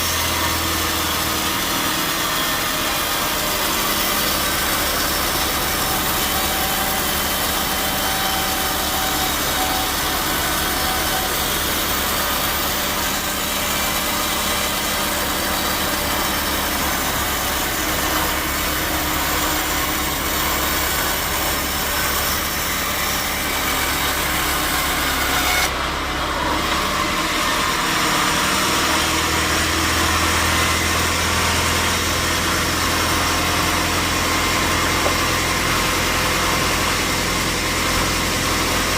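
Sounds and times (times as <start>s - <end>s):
sawmill saw cutting log: 0.0s - 38.9s.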